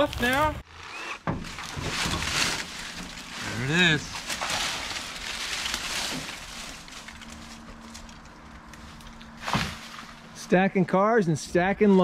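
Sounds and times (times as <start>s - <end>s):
branches dragged through dry brush: 0.0s - 10.4s.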